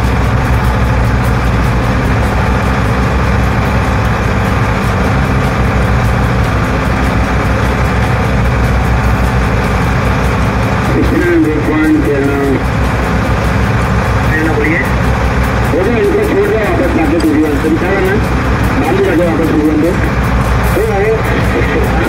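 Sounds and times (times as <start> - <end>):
motor boat engine drone: 0.0 - 22.0.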